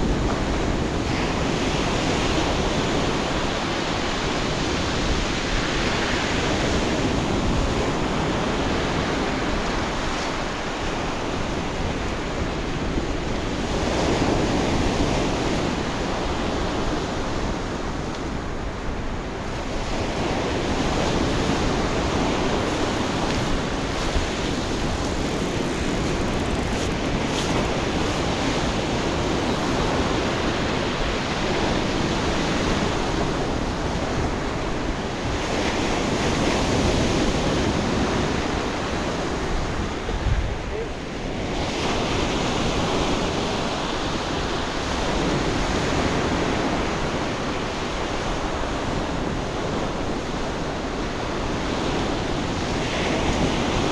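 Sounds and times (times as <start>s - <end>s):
waves breaking on pebble beach: 0.0s - 53.9s.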